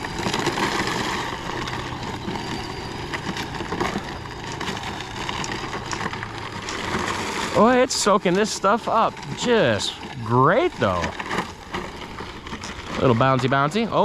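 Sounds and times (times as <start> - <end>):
rc car driving over dirt: 0.0 - 14.0
small crackles and clicks: 0.0 - 14.0.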